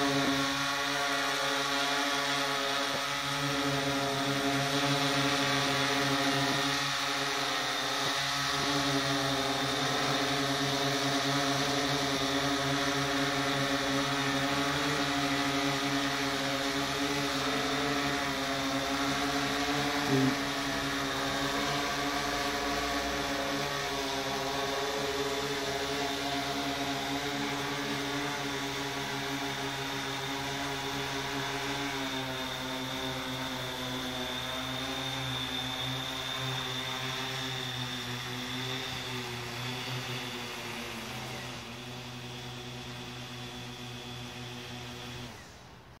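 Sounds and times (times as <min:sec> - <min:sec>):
drone rotors buzzing: 0:00.0 - 0:45.8.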